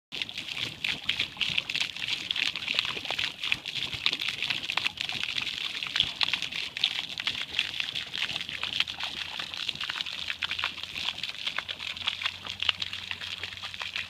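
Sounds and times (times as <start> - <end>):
fountain water trickling and splashing: 0.1 - 14.0
small splashes and crackles: 0.1 - 14.0.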